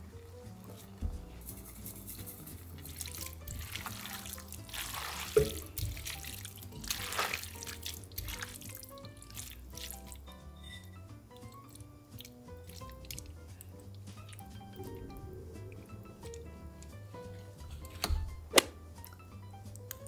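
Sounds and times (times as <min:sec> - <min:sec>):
wet pasta stirring squish: 0:00.0 - 0:10.4, 0:11.1 - 0:18.0
background music: 0:00.0 - 0:20.0.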